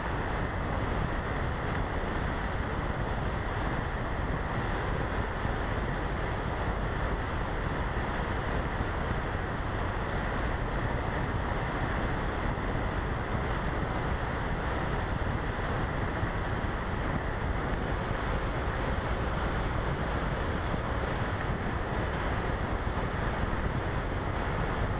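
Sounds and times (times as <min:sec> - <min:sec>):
airflow over microphone: 0:00.0 - 0:24.9.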